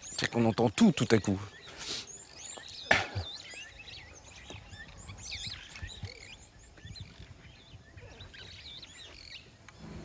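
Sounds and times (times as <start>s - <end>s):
birds chirping chorus: 0.0s - 10.0s.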